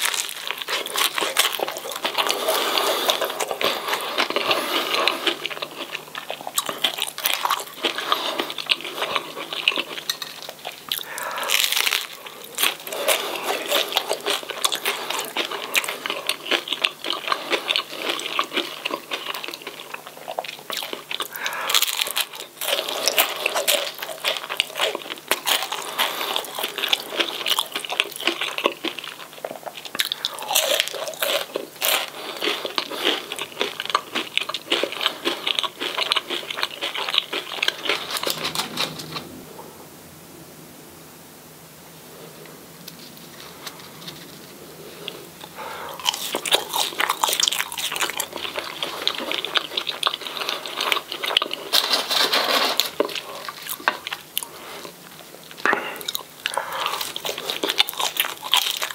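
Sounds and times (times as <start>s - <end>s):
crunchy chewing of fried food: 0.0s - 39.4s, 42.2s - 58.9s.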